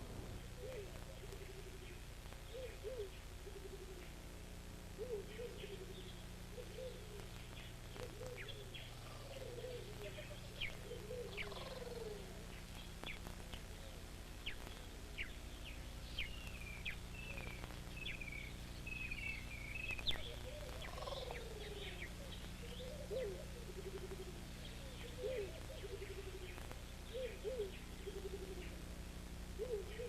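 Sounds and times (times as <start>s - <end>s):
lower falling bird calls: 0.0s - 4.3s, 4.9s - 30.0s
steady low hum: 0.0s - 30.0s
birds chirping and trilling: 0.4s - 4.2s, 5.0s - 28.9s, 29.6s - 30.0s.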